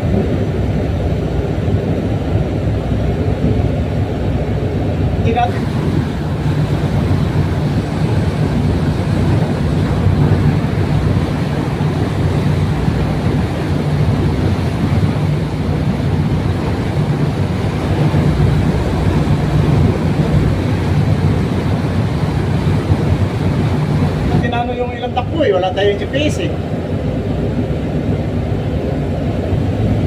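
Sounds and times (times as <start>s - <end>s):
propeller wash churning: 0.0s - 30.0s
tugboat engine droning: 0.0s - 30.0s.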